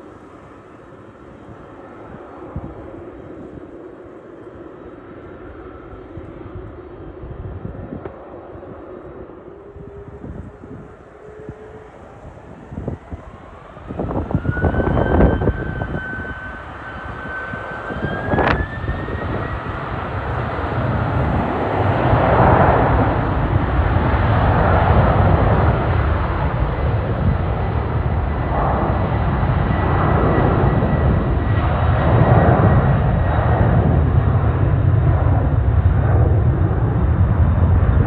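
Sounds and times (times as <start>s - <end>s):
jet engine rumble: 0.0s - 38.0s
jet engine whine: 0.0s - 38.0s.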